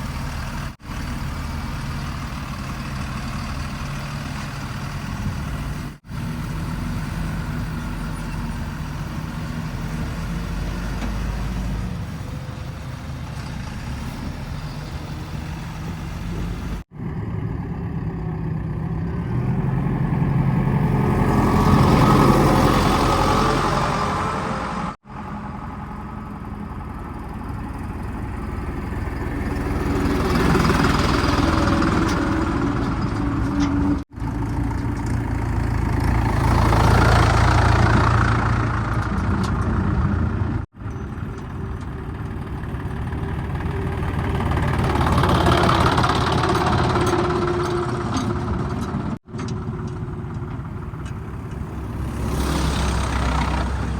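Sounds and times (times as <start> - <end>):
diesel engines of heavy machinery: 0.0 - 53.9.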